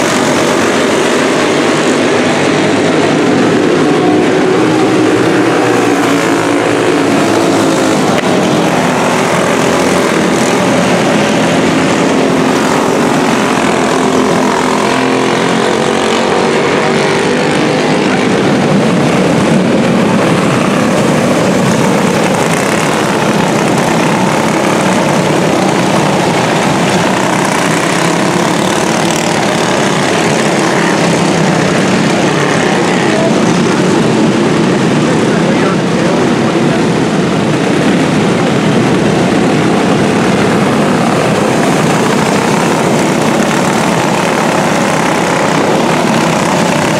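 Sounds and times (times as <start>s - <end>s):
racing kart engines: 0.0s - 46.9s.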